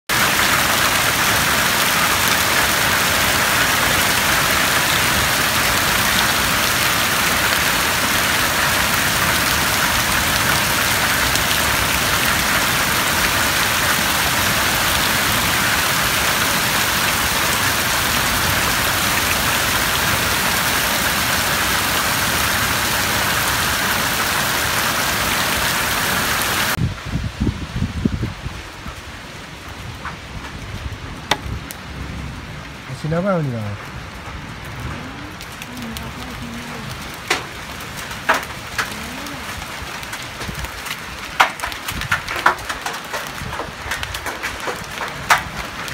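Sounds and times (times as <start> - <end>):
heavy rain pouring on plants: 0.1 - 45.9.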